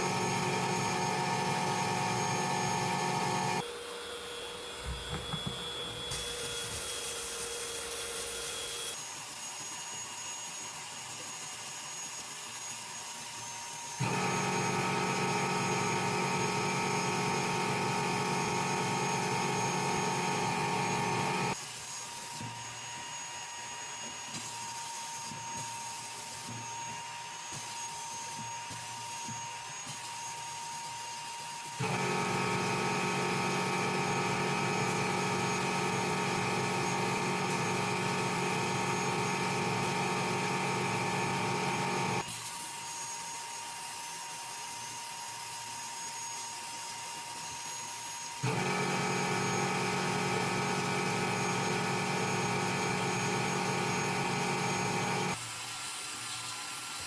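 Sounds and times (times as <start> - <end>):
power tool whining on metal: 0.0 - 57.0.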